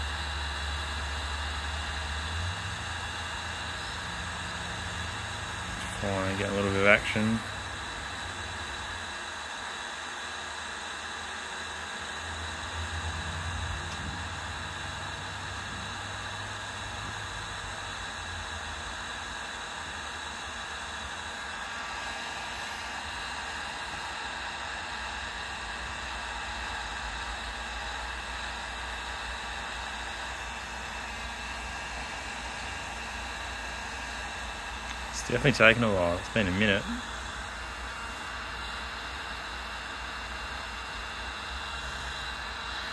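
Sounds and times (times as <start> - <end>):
heat gun fan whirring: 0.0 - 42.9.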